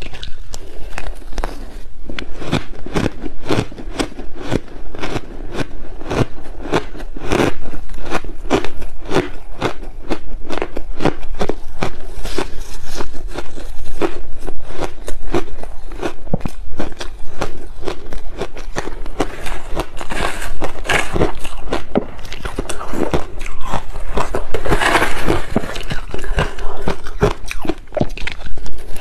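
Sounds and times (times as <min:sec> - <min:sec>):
ice crunching while chewed: 0:00.0 - 0:29.0.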